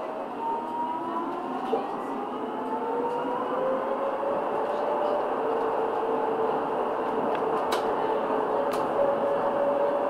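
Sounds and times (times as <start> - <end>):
tram rolling with whine: 0.0 - 10.0.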